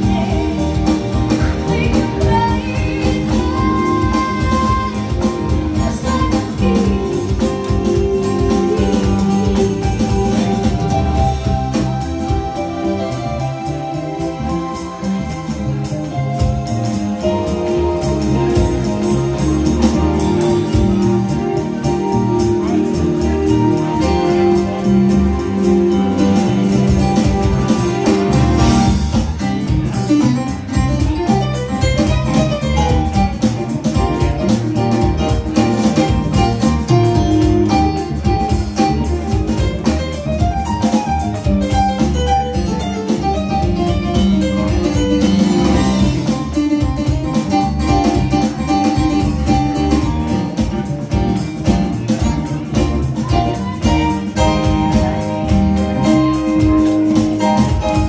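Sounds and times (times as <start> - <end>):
drum kit: 0.0 - 58.0
jazz band playing live: 0.0 - 58.0
keyboard: 0.0 - 58.0
plucked upright bass: 0.0 - 58.0.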